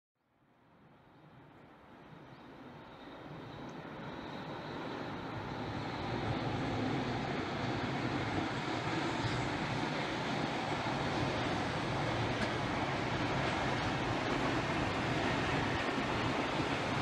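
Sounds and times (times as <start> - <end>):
freight train rumble: 1.3 - 17.0.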